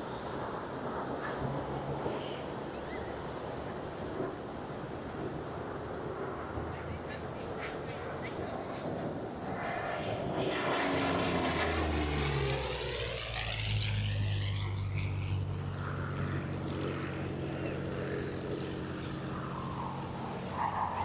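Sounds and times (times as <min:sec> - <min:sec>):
propeller airplane flying past: 0:00.0 - 0:21.0.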